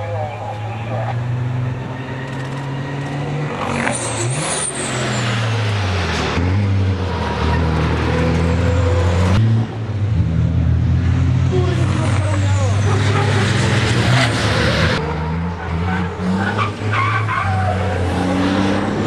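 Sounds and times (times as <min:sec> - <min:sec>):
diesel truck engines racing: 0:00.0 - 0:19.0.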